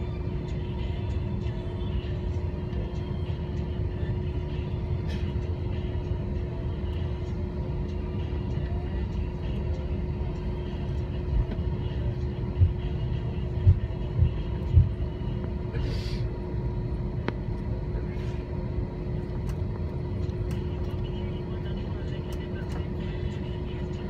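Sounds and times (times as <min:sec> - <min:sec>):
aircraft cabin rumble: 0:00.0 - 0:24.0.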